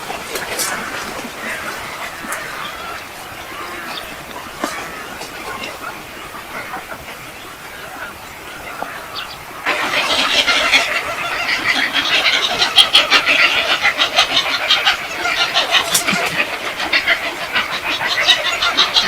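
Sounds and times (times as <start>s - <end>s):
flock of birds calling: 0.0s - 19.0s.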